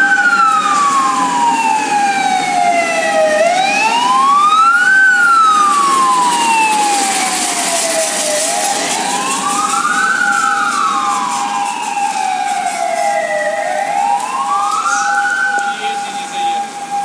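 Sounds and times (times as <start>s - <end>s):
fire truck siren wailing: 0.0s - 17.0s
steady siren tone: 0.0s - 17.0s.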